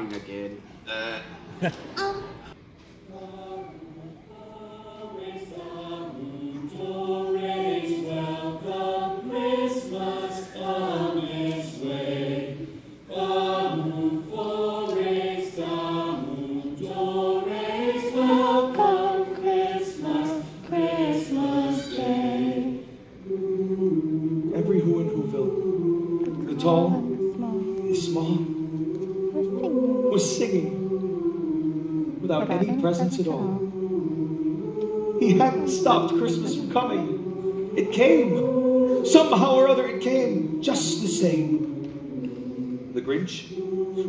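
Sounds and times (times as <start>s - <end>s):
chorus singing slow carol: 0.9s - 44.0s.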